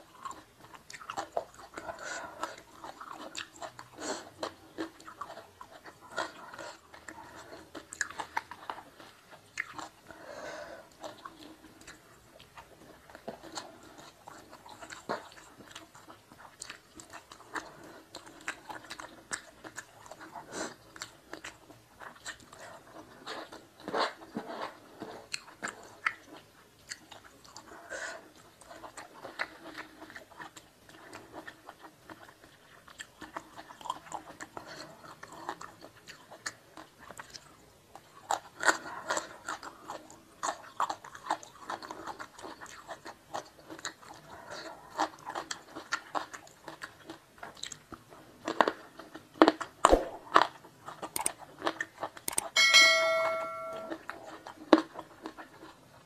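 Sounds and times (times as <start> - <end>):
person chewing with wet mouth sounds: 0.0 - 52.6, 53.9 - 56.0.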